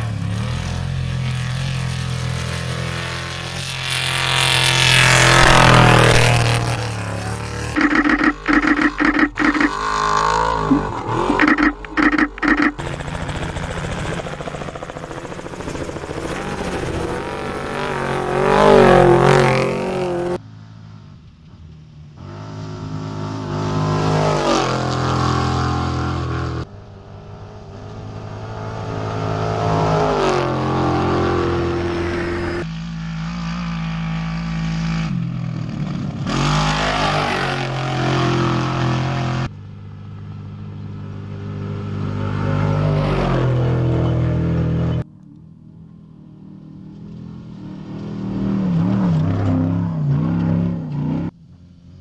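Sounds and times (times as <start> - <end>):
race truck engines at full throttle: 0.0 - 52.0.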